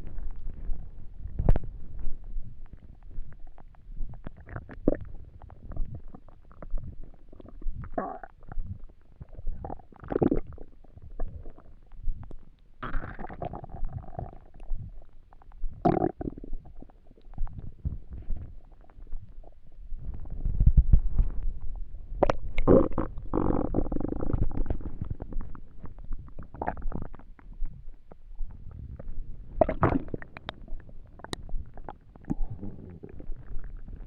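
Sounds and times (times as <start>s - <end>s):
stomach rumbling and gurgling: 0.0s - 34.0s.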